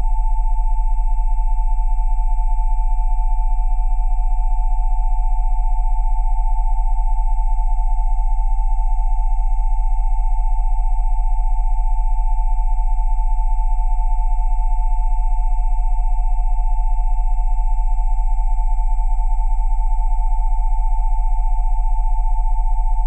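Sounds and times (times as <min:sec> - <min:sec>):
pulsing electronic sine tones: 0:00.0 - 0:23.0.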